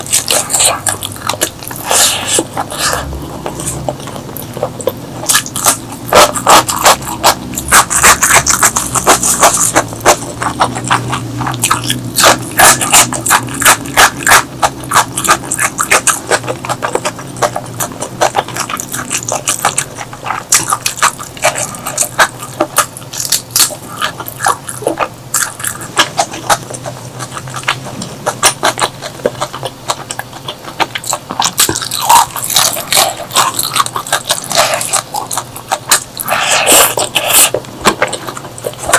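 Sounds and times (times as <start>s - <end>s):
chewing and mouth smacking: 0.0s - 38.9s.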